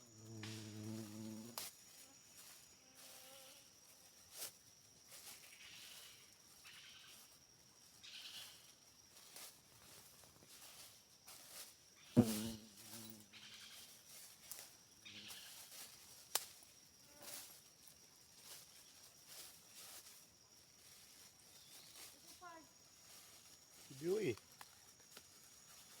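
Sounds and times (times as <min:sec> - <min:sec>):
insects buzzing drone: 0:00.0 - 0:26.0.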